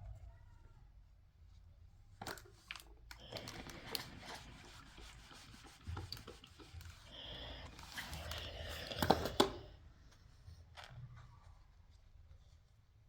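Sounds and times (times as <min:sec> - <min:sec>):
rubbing and scraping handling noise: 0:01.5 - 0:13.0.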